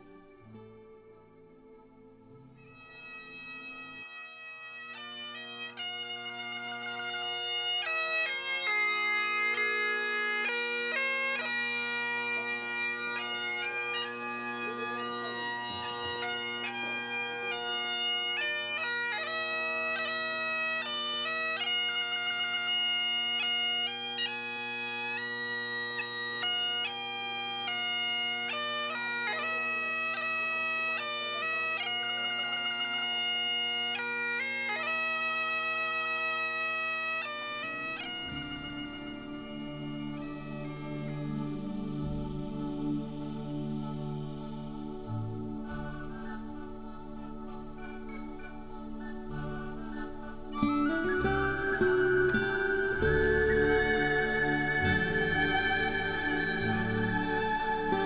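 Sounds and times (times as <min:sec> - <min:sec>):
bagpipes playing: 0:00.0 - 0:00.7, 0:02.6 - 0:58.0.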